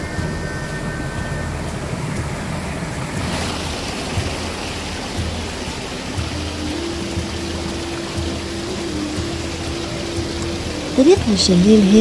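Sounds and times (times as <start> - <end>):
bright water hiss: 0.0 - 12.0
stream water running: 0.0 - 12.0.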